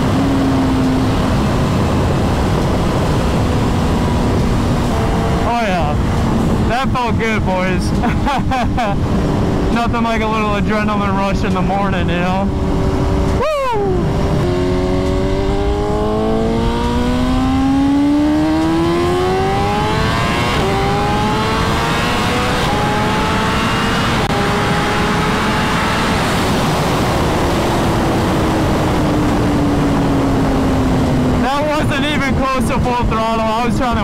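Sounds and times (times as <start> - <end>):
motorcycle engine accelerating: 0.0 - 33.5
wind noise: 0.0 - 34.0.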